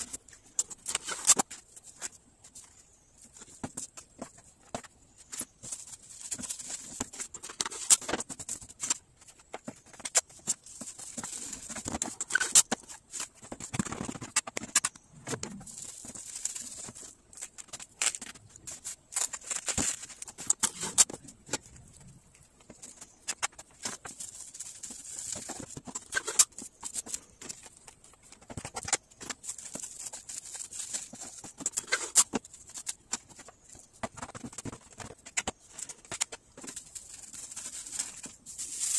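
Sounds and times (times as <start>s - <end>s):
plastic cling wrap crinkling: 0.0s - 38.9s.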